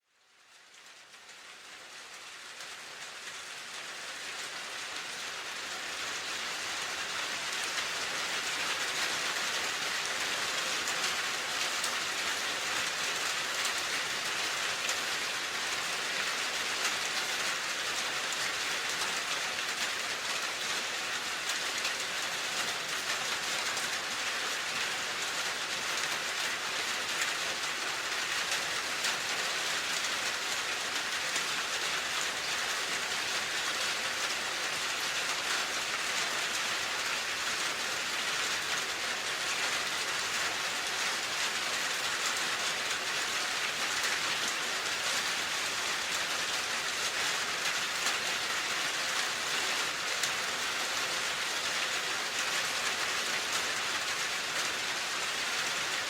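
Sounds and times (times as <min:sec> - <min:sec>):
rain pattering: 0:00.2 - 0:56.0.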